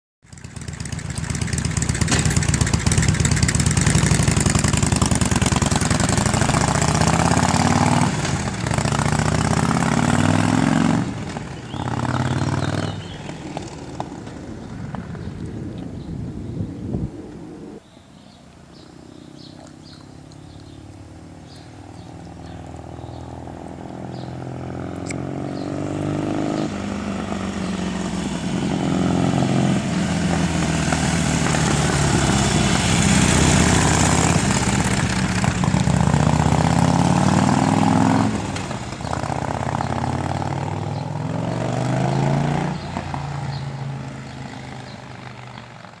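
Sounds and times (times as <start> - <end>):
motorcycle accelerating past: 0.3 - 16.1, 18.8 - 46.0.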